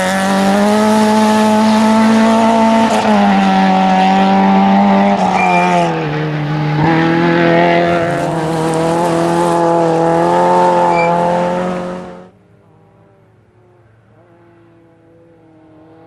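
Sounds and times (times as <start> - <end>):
rally car engine at high revs: 0.0 - 13.2.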